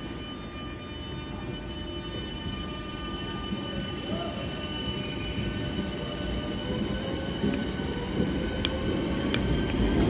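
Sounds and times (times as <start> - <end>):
train rumbling along tracks: 0.0 - 10.0.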